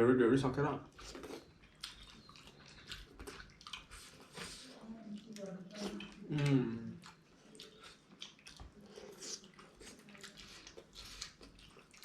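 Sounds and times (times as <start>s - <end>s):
people chewing food: 0.5s - 12.0s.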